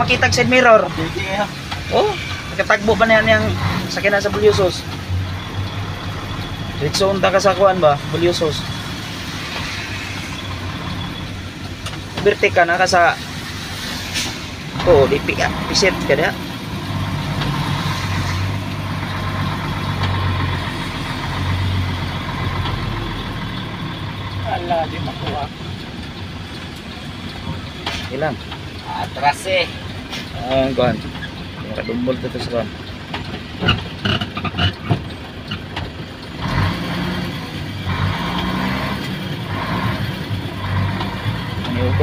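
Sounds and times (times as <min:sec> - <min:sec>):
diesel truck engine hum: 0:00.0 - 0:42.0.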